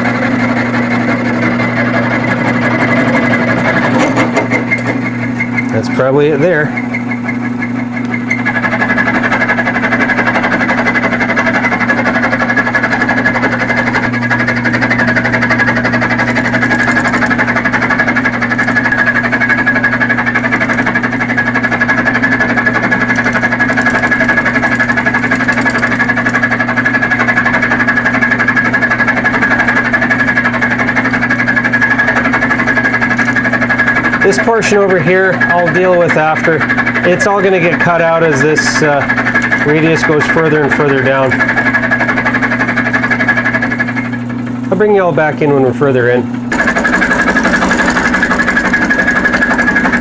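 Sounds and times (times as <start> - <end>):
mill motor hum: 0.0 - 50.0.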